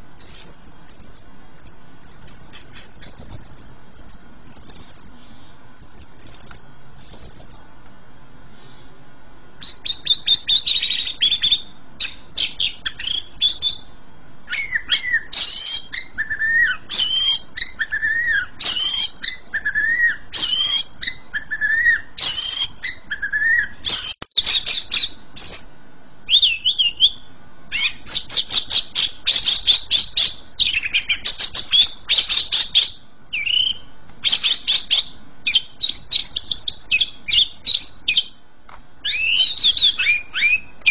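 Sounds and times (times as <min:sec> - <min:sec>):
bird singing: 0:00.0 - 0:07.8, 0:09.6 - 0:38.4, 0:39.0 - 0:40.9.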